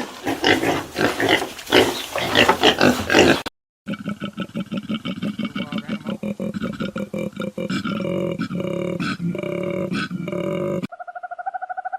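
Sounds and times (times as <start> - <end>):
pigs squealing and grunting: 0.0 - 11.9.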